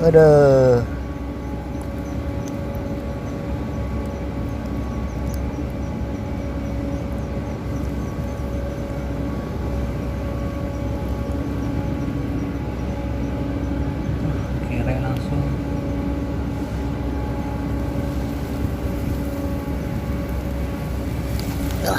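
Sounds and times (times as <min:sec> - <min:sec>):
motor humming steadily: 0:00.0 - 0:21.9.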